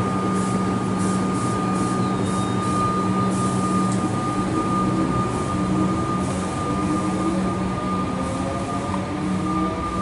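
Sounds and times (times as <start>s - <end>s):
electric train pulling away: 0.0s - 10.0s.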